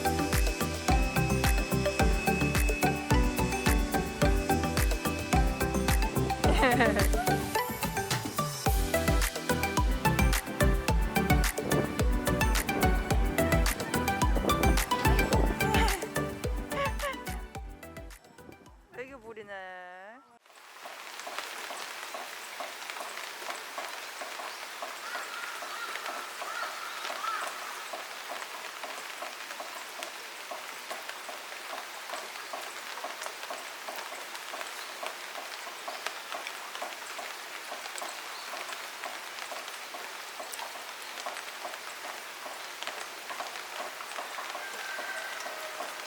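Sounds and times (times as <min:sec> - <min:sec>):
water drip ticks: 0:00.0 - 0:18.9, 0:20.8 - 0:46.0
steady rain pattering: 0:00.0 - 0:19.3, 0:20.4 - 0:46.0.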